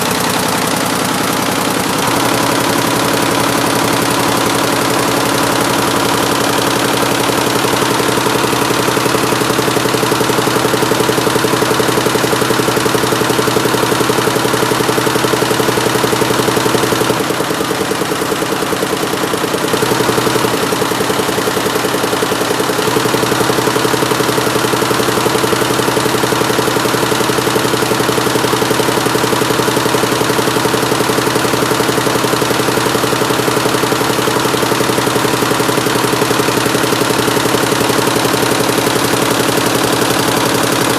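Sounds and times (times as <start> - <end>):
embroidery machine clattering: 0.0 - 40.9.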